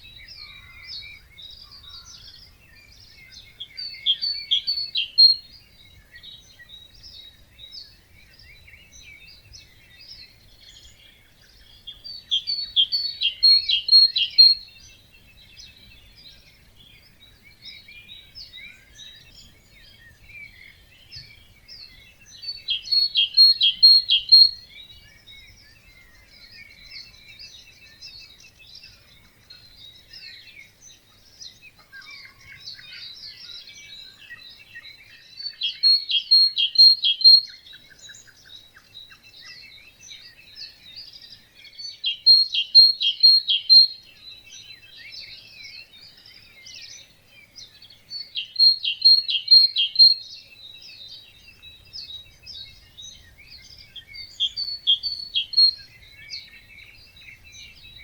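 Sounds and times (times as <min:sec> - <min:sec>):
birds singing in chorus: 0:00.0 - 0:58.0
nearby bird loud short song: 0:00.0 - 0:58.0.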